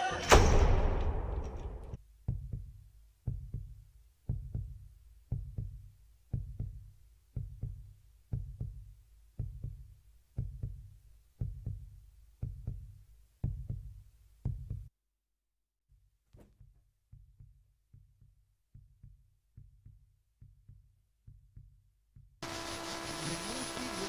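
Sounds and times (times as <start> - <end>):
deep heartbeat-like thumps: 0.4 - 14.9, 16.5 - 22.4.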